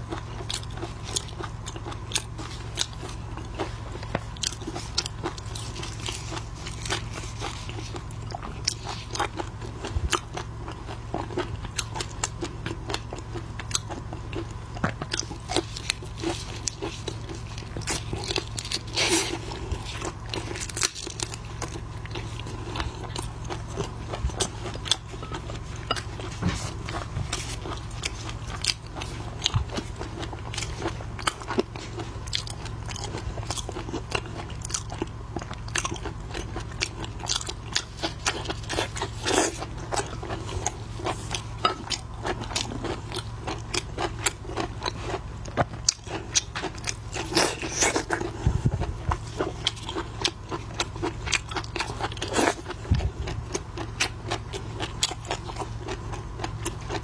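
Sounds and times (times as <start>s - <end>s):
crunching and chewing shrimp: 0.0s - 57.0s.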